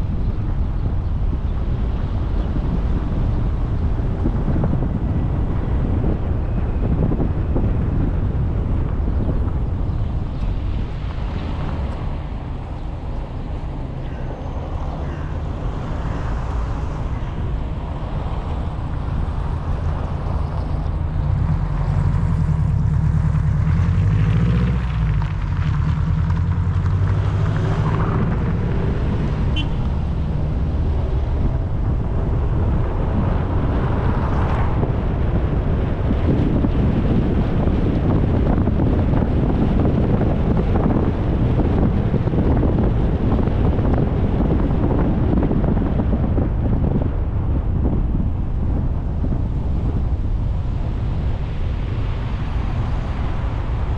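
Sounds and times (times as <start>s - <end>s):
road noise: 0.0s - 53.9s
vehicle engine rumbling: 0.0s - 53.9s
wind buffeting microphone: 0.0s - 53.9s.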